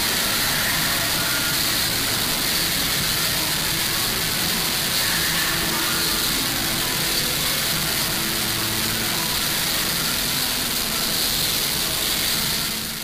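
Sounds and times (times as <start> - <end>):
even hiss: 0.0 - 13.0.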